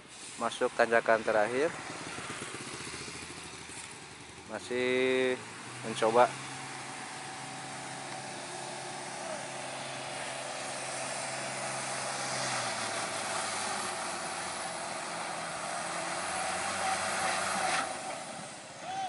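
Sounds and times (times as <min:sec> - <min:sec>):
truck diesel engine labouring: 0:00.0 - 0:19.0.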